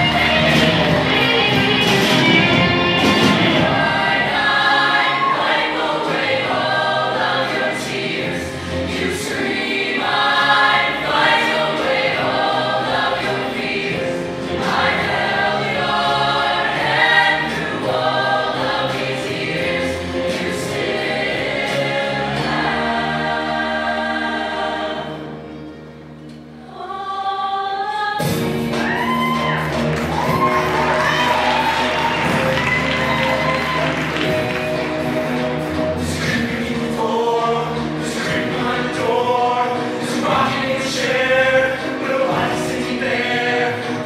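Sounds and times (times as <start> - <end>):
choir singing in harmony: 0.0 - 44.0.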